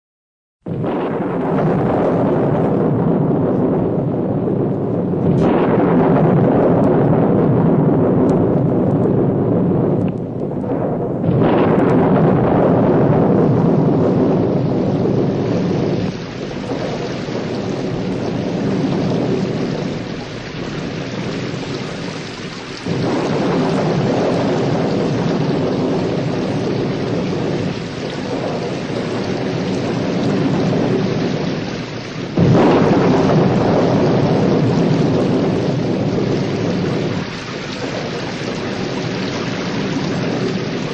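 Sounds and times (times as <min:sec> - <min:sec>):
rolling thunder: 0:00.6 - 0:40.9
sharp thunderclaps: 0:00.6 - 0:40.9
heavy rain falling: 0:00.8 - 0:40.9.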